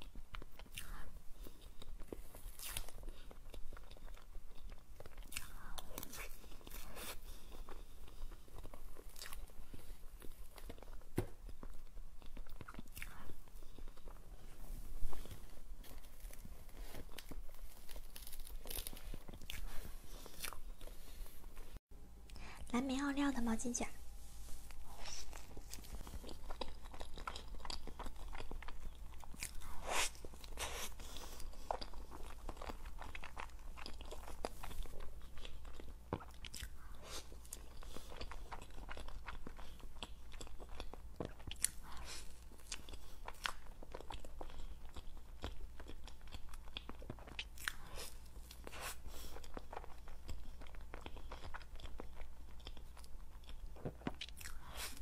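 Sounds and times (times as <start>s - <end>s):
biting and chewing crunchy food: 0.0s - 22.4s, 24.7s - 55.0s.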